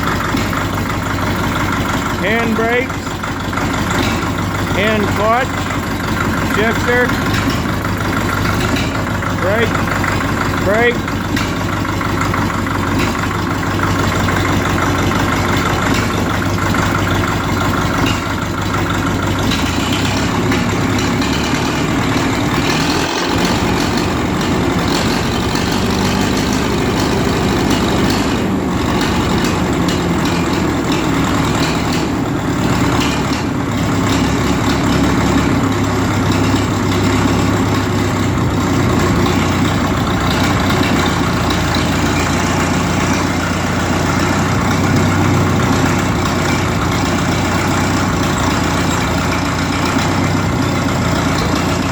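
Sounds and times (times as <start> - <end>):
diesel engine running steadily: 0.0 - 51.9.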